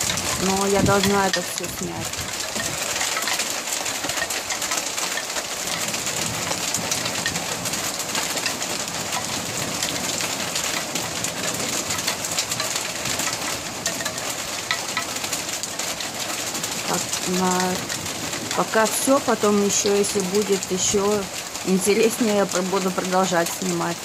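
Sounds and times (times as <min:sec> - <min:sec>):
hail pattering: 0:00.0 - 0:24.0.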